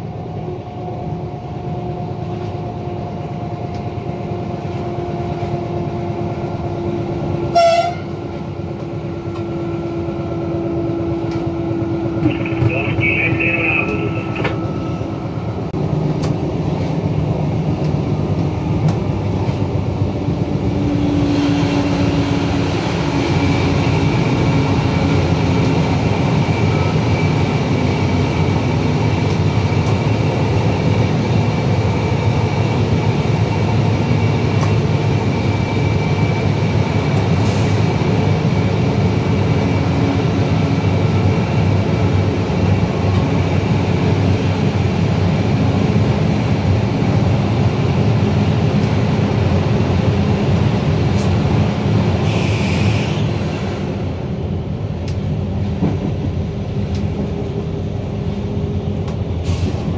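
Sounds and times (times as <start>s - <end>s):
train rumble and track noise: 0.0s - 59.9s.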